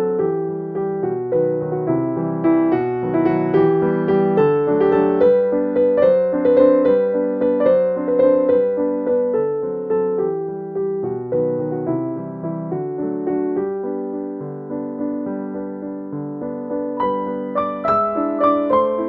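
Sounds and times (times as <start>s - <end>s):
slow piano melody: 0.0s - 19.0s.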